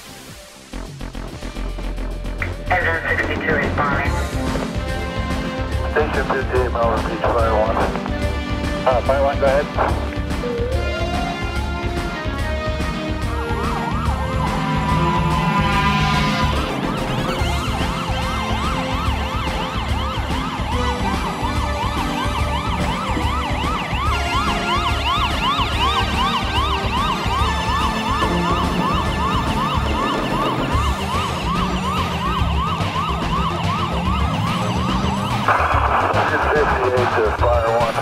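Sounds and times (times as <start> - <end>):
low thumping beat: 1.2 - 37.9
fire engine siren yelping: 4.0 - 37.6.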